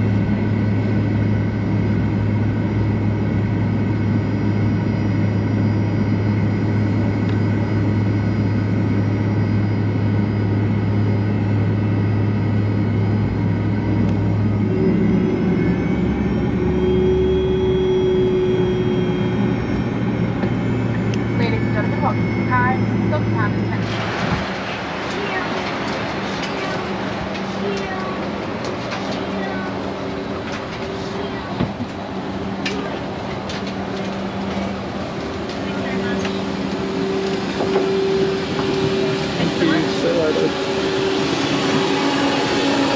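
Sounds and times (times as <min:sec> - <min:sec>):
jet engine low hum: 0:00.0 - 0:42.9
thin high turbine whines: 0:00.0 - 0:42.9.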